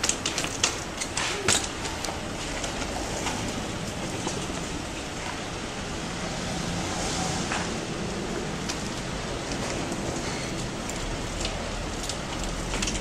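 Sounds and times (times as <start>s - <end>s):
street noise hiss: 0.0s - 13.0s.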